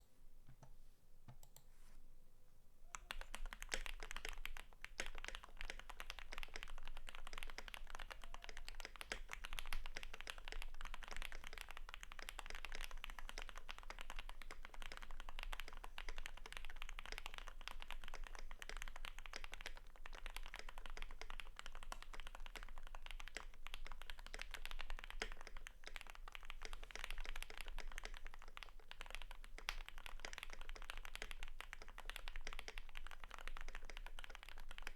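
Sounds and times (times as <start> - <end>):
mechanical keyboard typing: 3.0 - 34.9.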